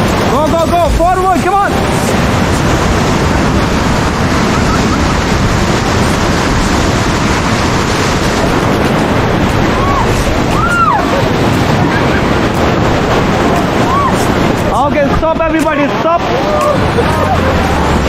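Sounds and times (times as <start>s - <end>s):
whitewater rushing and crashing: 0.0s - 18.0s
wind buffeting microphone: 0.0s - 18.0s.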